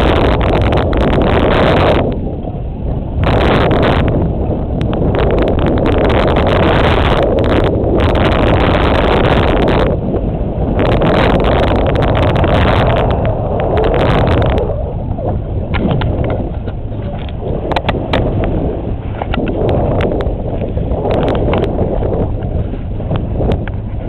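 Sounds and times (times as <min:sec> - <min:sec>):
boat engine rumble: 0:00.0 - 0:24.0
wind on microphone: 0:00.0 - 0:24.0.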